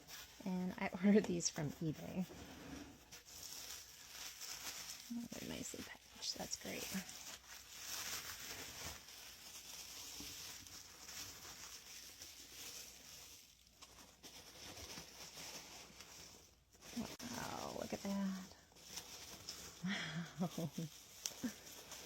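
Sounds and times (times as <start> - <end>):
packing material rustling: 0.0 - 22.0.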